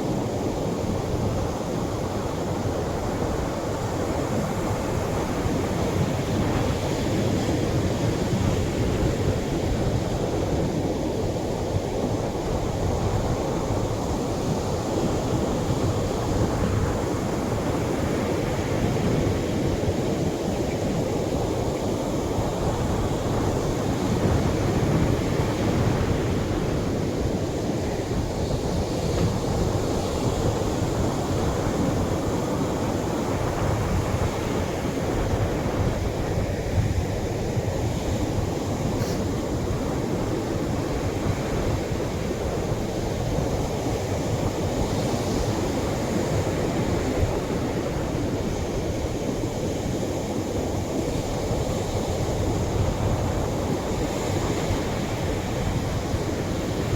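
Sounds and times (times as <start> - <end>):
waves washing onto beach: 0.0 - 56.9.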